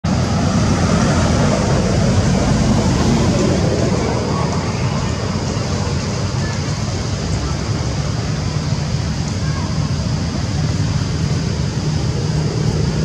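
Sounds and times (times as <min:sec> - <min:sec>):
low outdoor rumble: 0:00.1 - 0:13.0.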